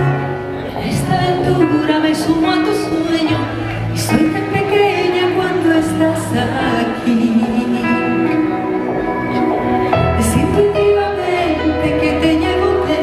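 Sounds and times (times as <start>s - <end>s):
woman singing: 0.0s - 9.1s, 9.9s - 13.0s
live band with keyboards: 0.0s - 13.0s.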